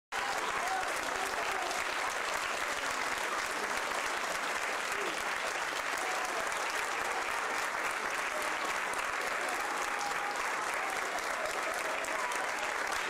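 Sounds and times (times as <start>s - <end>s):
audience applauding: 0.1s - 13.0s.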